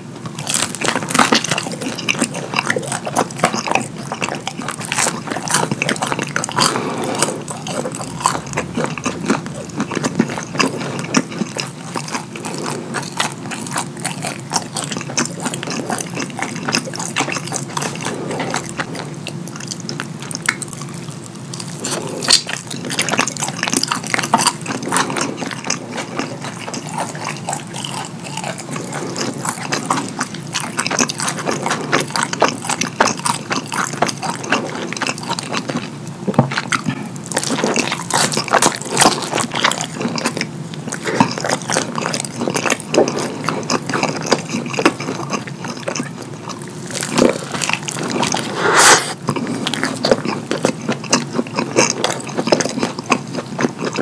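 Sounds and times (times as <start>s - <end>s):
wet chewing and lip smacking: 0.2s - 54.0s.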